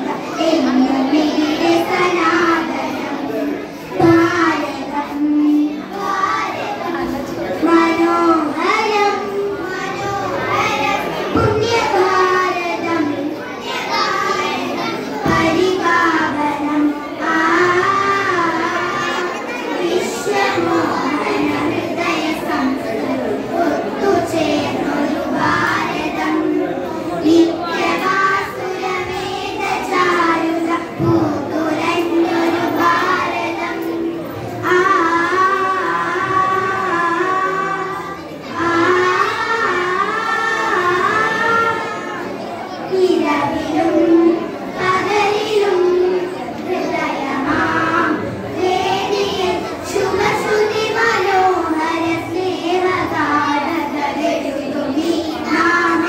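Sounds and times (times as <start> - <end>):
girls singing together: 0.0 - 56.0.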